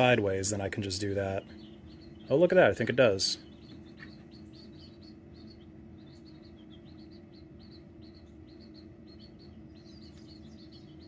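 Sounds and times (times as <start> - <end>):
baby chicks peeping: 0.0 - 11.0
steady low hum: 0.0 - 11.0.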